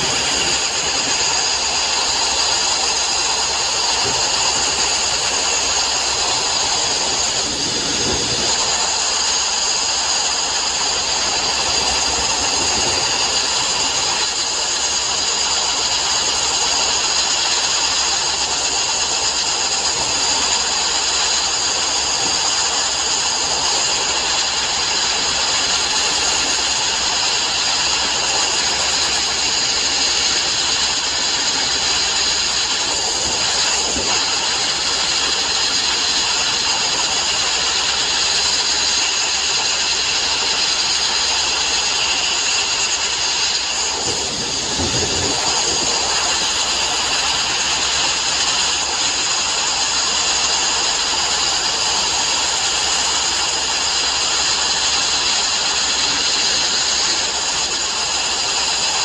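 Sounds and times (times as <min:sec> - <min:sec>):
sandblasting nozzle hissing: 0:00.0 - 0:59.0.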